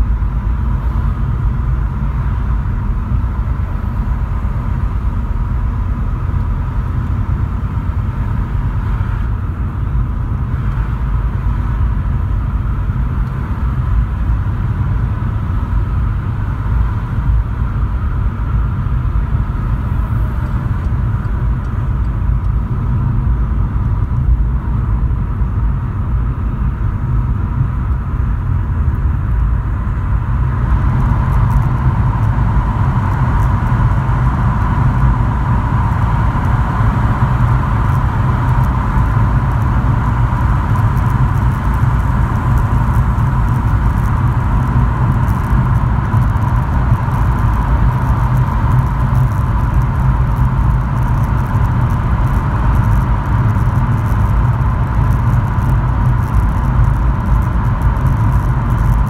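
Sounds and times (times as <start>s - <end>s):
in-cabin road noise: 0.0s - 59.0s.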